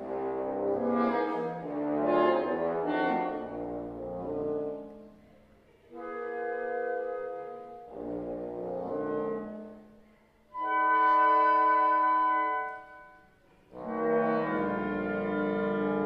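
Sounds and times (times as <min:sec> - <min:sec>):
woodwind quintet playing blues: 0:00.0 - 0:05.1, 0:05.8 - 0:16.0.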